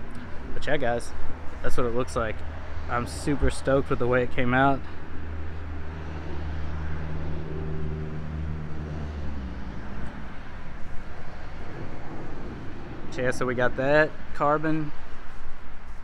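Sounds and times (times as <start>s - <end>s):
faint outdoor background noise: 0.0s - 16.0s
motor vehicle engine hum: 0.0s - 16.0s.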